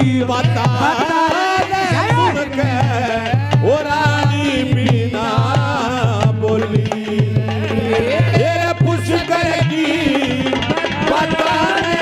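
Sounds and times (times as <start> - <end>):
hand drum beat: 0.0 - 12.0.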